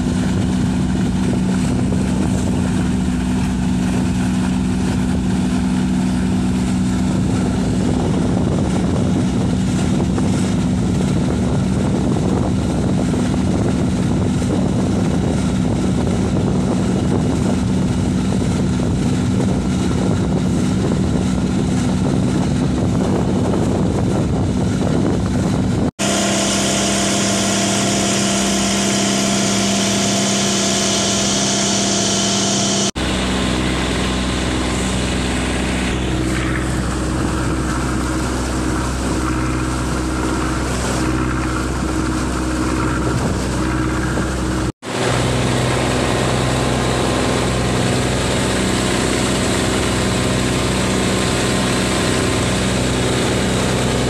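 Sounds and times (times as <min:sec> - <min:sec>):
diesel boat engine running: 0:00.0 - 0:54.0
water rushing along hull: 0:00.0 - 0:54.0.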